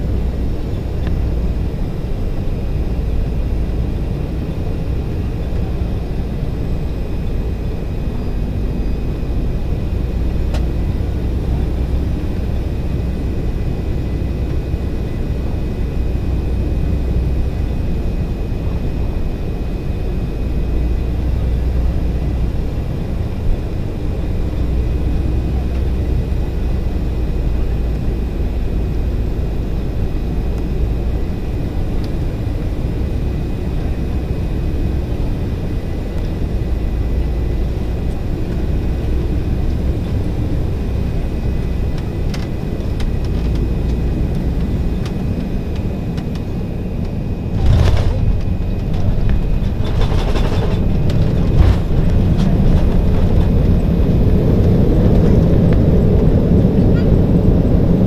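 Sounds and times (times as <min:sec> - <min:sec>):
jet engine cabin rumble: 0:00.0 - 0:58.0
jet rolling on runway: 0:00.0 - 0:58.0.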